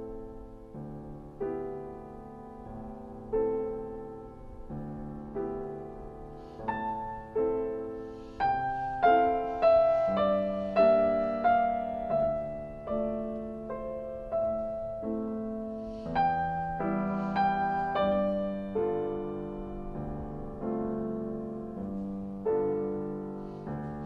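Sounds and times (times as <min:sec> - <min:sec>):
slow gentle piano music: 0:00.0 - 0:24.0.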